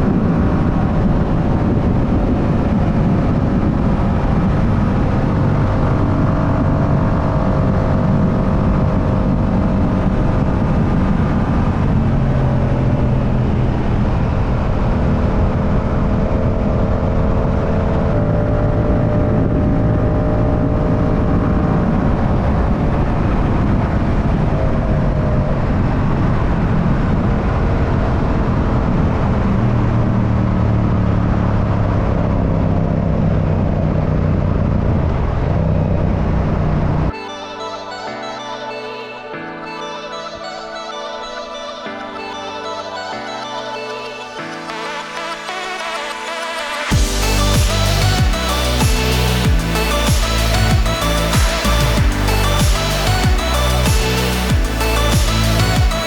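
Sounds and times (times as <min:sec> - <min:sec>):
road and wind rumble: 0:00.0 - 0:37.1, 0:44.2 - 0:56.0.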